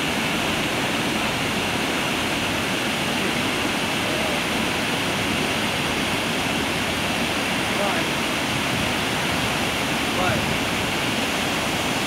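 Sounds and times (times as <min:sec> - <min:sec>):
water rushing over a weir: 0:00.0 - 0:12.0.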